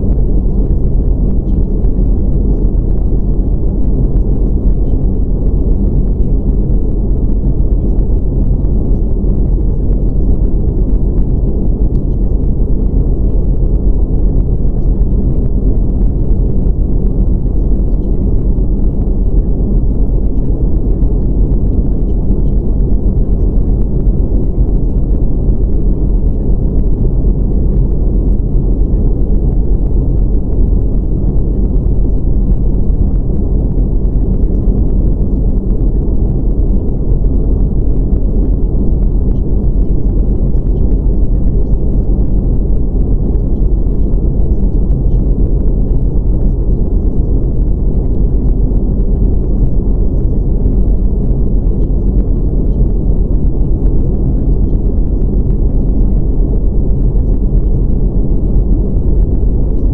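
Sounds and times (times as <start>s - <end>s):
deep rumbling noise: 0.0s - 59.9s.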